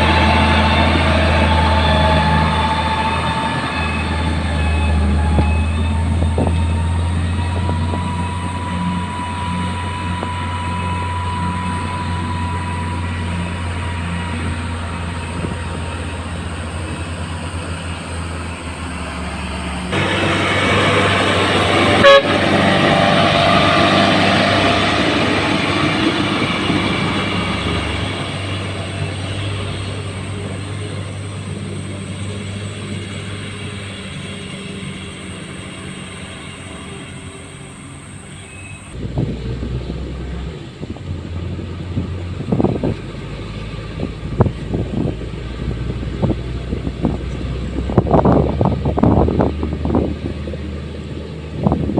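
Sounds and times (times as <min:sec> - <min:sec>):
diesel engine humming: 0:00.0 - 0:51.9
rushing mechanical noise: 0:00.0 - 0:51.9.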